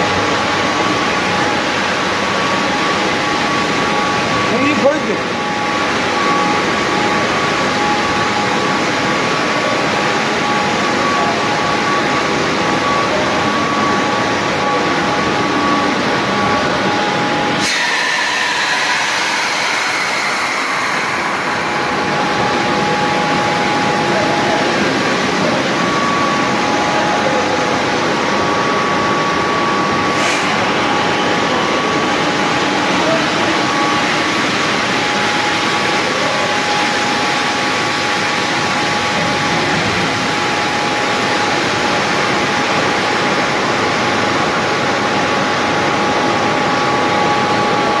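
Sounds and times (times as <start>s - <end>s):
falling whine: 0.0s - 48.0s
industrial machinery running: 0.0s - 48.0s.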